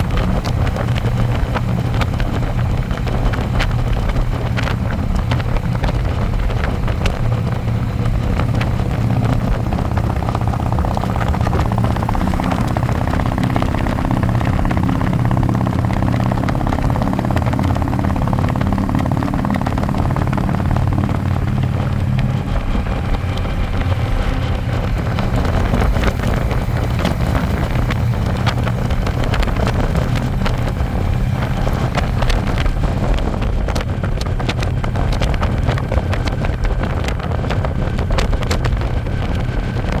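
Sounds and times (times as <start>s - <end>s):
motorcycle engine running: 0.0s - 40.0s
wind buffeting microphone: 0.0s - 40.0s.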